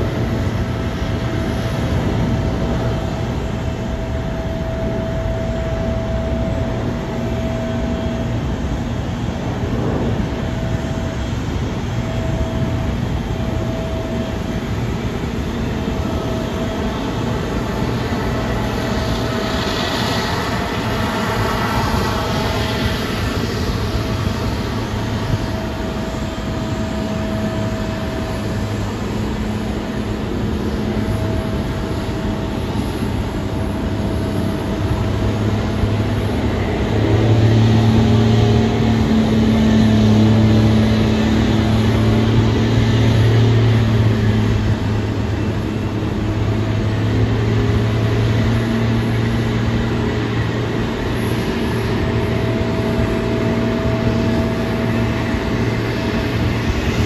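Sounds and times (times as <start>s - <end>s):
jet engine rumble: 0.0s - 57.0s.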